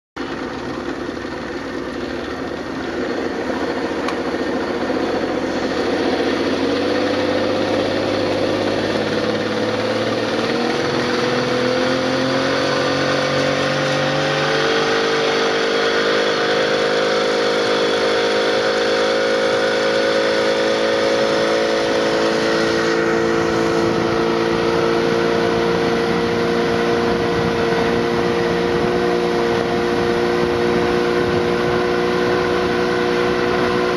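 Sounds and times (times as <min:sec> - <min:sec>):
motorboat engine: 0:00.2 - 0:33.9.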